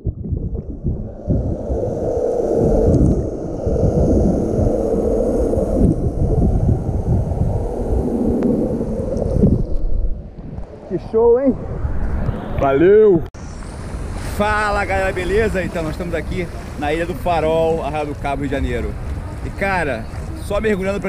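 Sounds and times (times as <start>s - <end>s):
muffled underwater churning: 0.0s - 10.9s, 13.4s - 21.0s.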